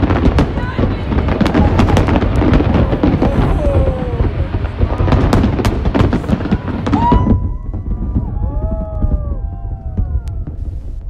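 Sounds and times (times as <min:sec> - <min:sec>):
fireworks cracks and bangs: 0:00.0 - 0:11.0
low booming rumble: 0:00.0 - 0:11.0.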